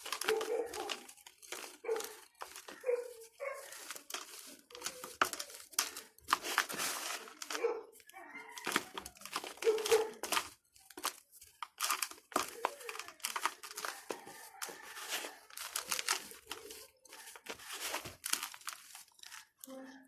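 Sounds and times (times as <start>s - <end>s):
dirt balls crunching: 0.0s - 19.7s.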